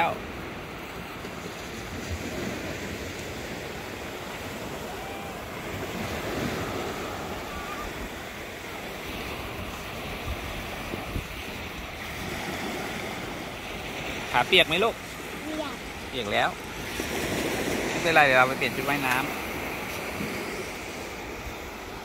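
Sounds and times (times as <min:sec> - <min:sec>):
small waves breaking on sand: 0:00.0 - 0:22.0
wind rumbling on microphone: 0:00.0 - 0:22.0.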